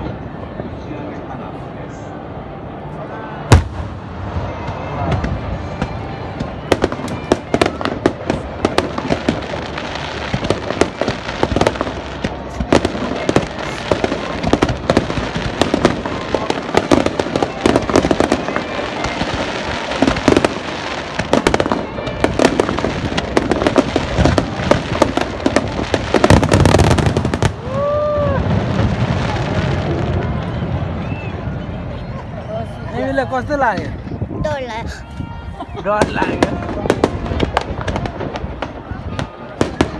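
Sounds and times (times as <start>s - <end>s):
fireworks bangs and crackles: 3.4s - 32.3s, 32.9s - 39.9s.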